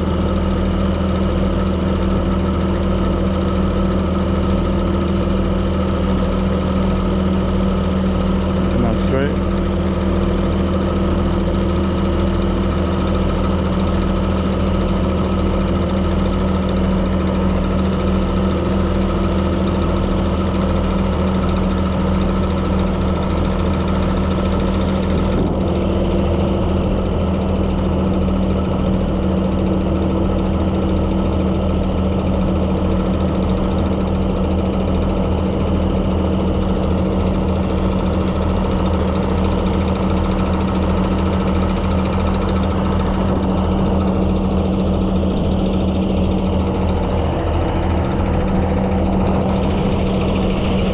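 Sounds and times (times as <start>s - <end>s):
diesel truck engine idling: 0.0s - 50.9s.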